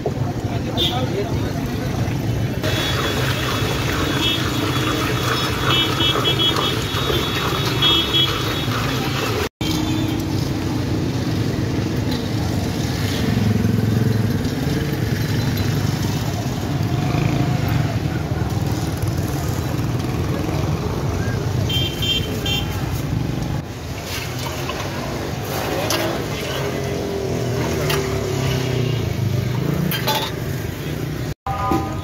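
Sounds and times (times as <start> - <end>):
motorcycle and traffic engines: 0.0 - 32.0.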